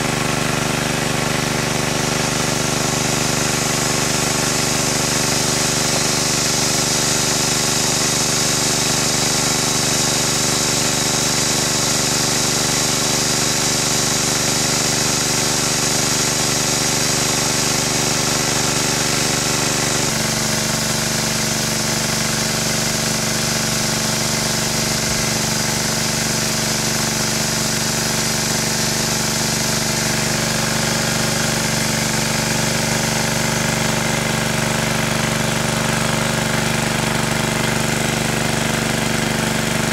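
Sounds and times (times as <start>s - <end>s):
water gushing from outlet: 0.0s - 39.9s
water pump engine humming: 0.0s - 39.9s.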